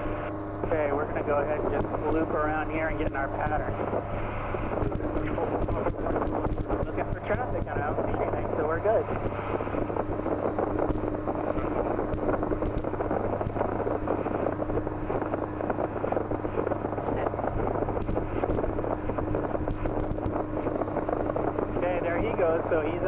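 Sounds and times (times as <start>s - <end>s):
helicopter engine and rotors droning: 0.0s - 23.0s.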